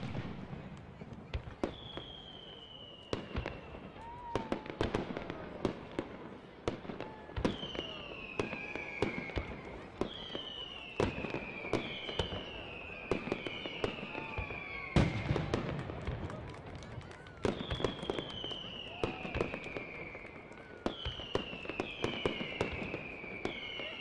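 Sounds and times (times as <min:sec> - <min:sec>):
whistling firework shells: 0:00.0 - 0:06.0, 0:06.7 - 0:24.0
fireworks bangs and crackles: 0:00.0 - 0:24.0.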